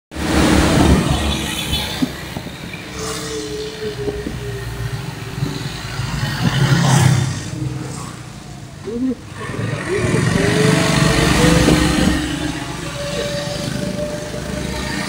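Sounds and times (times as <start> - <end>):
motorcycle engine drone: 0.1 - 15.0
road noise on wet road: 0.1 - 15.0
scooter passing: 0.2 - 15.0.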